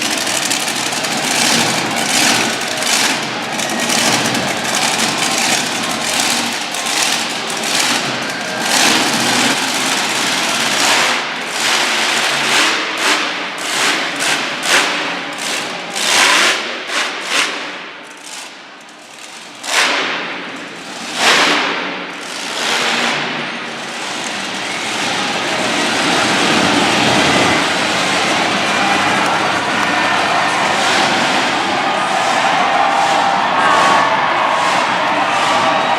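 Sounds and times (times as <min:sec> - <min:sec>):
monster truck engine revving: 0:00.0 - 0:35.9.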